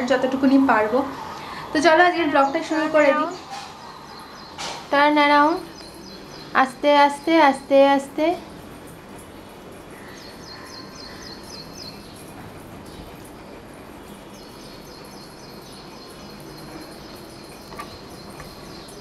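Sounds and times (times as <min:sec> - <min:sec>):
steady background hiss: 0:00.0 - 0:19.0
small bird chirping: 0:00.6 - 0:07.5, 0:08.5 - 0:19.0.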